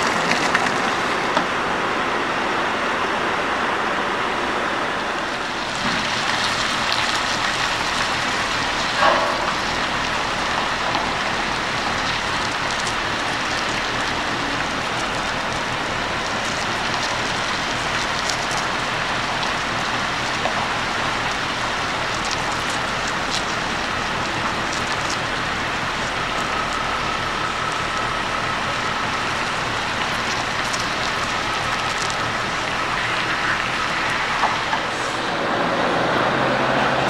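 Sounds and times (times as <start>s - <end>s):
steady rain: 0.0s - 37.0s
truck engine running: 0.0s - 37.0s.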